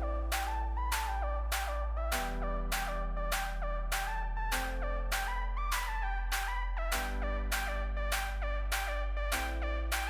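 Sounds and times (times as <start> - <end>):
electronic music with synth melody: 0.0 - 10.0.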